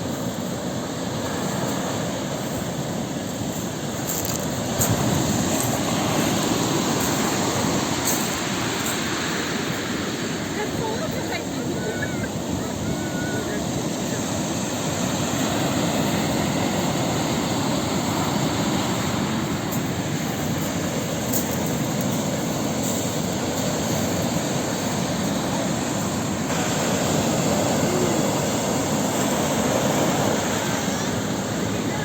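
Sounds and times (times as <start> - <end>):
waves breaking on shore: 0.0 - 32.0.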